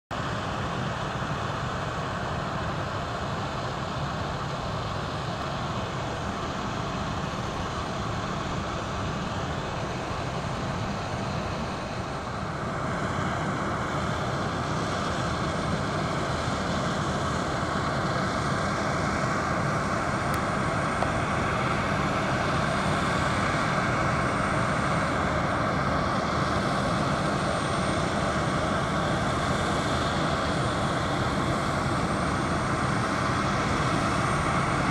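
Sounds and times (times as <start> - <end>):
distant jet rumble and hiss: 0.1 - 34.9.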